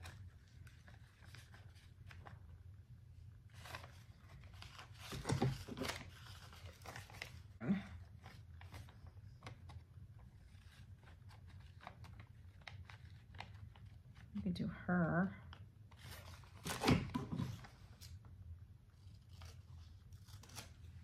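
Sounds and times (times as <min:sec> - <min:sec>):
paper rustling: 0:00.0 - 0:14.3, 0:15.5 - 0:21.0
paper crinkling: 0:00.0 - 0:14.4, 0:15.5 - 0:21.0.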